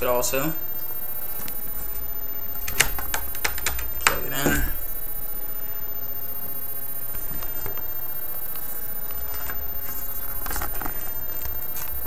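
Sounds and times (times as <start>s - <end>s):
low background hum: 0.0s - 12.0s
hard drive clicks and scrapes: 1.0s - 5.8s, 6.8s - 12.0s.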